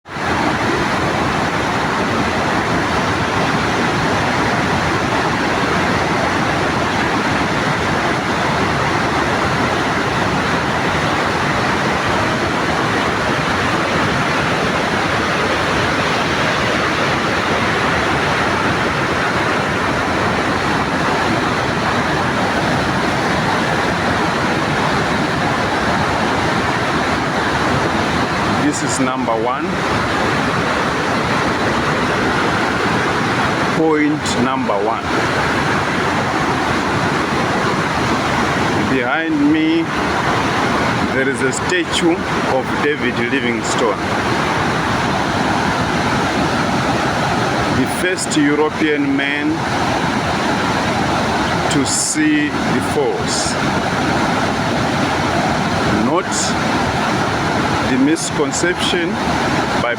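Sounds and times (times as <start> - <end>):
waterfall rushing: 0.1 - 59.9.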